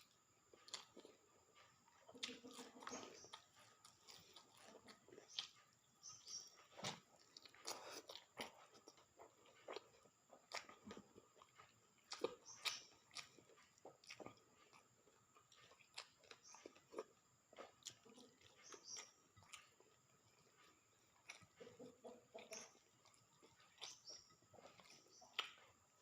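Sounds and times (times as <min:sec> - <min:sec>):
person chewing: 0:00.0 - 0:26.0.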